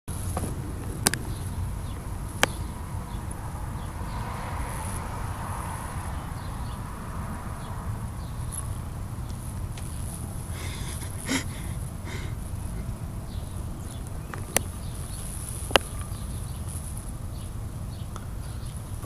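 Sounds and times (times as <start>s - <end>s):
insect trill: 0.1s - 19.0s.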